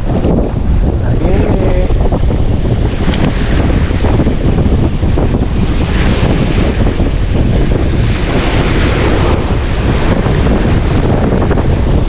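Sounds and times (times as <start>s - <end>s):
sea washing at shore: 0.0s - 12.0s
wind buffeting microphone: 0.0s - 12.0s.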